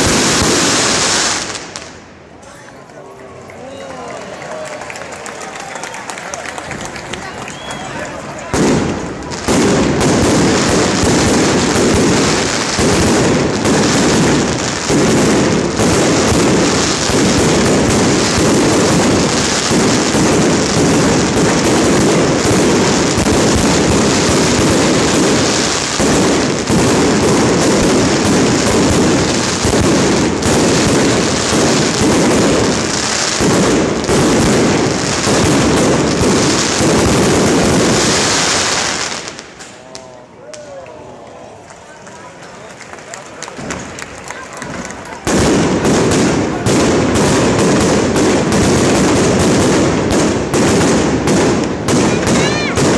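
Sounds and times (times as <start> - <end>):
fireworks bangs and crackle: 0.0 - 2.4, 4.9 - 40.8, 43.2 - 52.9.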